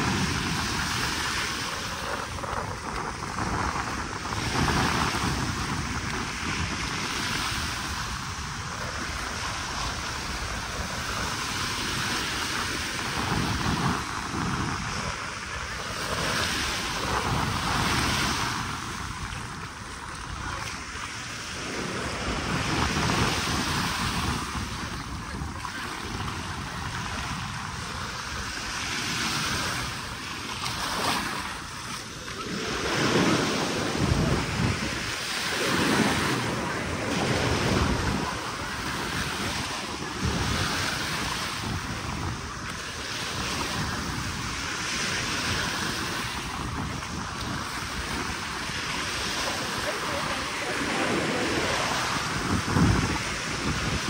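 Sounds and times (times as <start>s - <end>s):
small waves breaking on sand: 0.0s - 54.0s
wind buffeting microphone: 0.0s - 54.0s.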